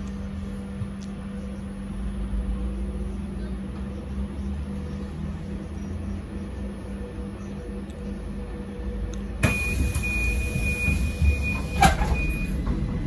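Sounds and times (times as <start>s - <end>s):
constant electrical hum: 0.0s - 13.0s
trolleybus cabin rumble: 0.0s - 13.0s.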